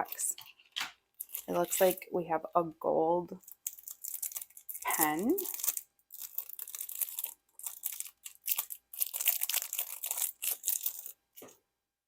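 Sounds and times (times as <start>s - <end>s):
plastic packaging crinkling and tearing: 0.0s - 2.1s, 3.4s - 11.6s.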